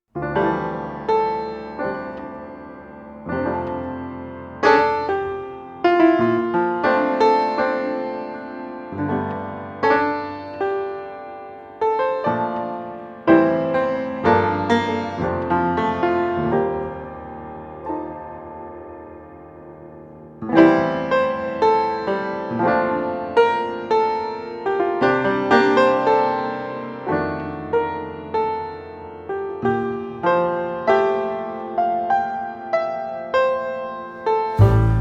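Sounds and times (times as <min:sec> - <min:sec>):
solo piano slow chords: 0:00.2 - 0:35.0.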